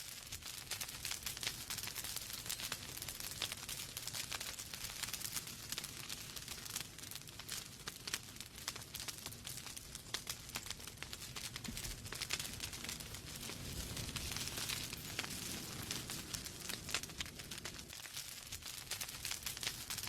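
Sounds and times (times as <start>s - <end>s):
log fire crackling and popping: 0.0s - 20.0s
low rush of flames: 0.0s - 20.0s.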